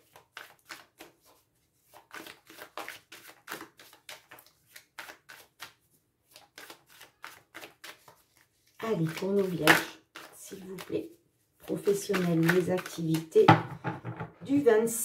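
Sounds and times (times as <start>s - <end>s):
cards being shuffled by hand: 0.0s - 13.5s.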